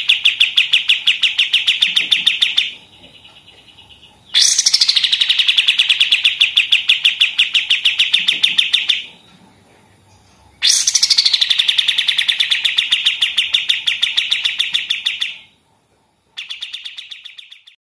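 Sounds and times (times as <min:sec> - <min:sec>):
songbird rapid repeated notes: 0:00.0 - 0:09.2, 0:10.5 - 0:15.5, 0:16.4 - 0:17.8.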